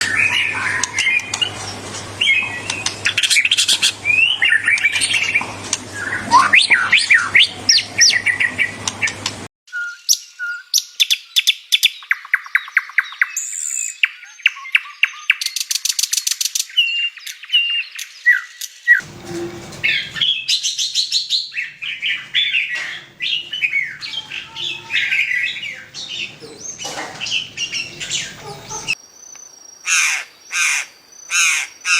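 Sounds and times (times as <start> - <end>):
songbirds singing: 0.0 - 31.9.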